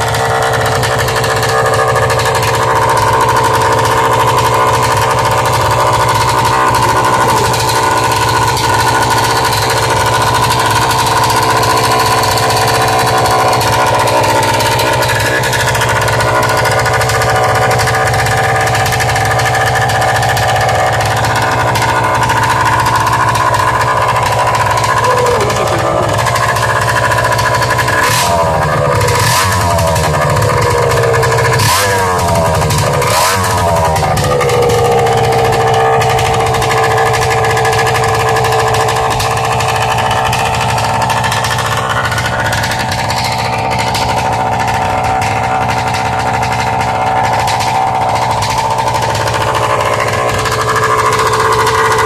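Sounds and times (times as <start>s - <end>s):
two-stroke engine revving and idling: 0.0s - 52.0s.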